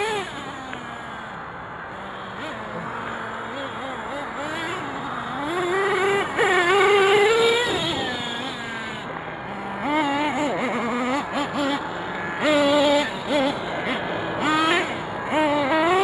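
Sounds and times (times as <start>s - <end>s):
nitro rc engine revving: 0.0s - 16.0s.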